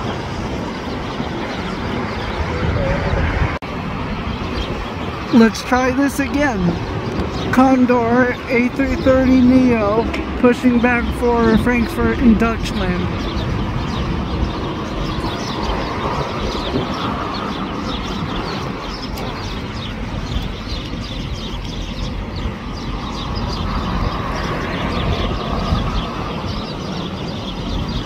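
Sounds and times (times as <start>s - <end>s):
small birds chirping: 0.0s - 3.4s, 4.0s - 28.0s
distant jet aircraft rumble: 0.0s - 28.0s.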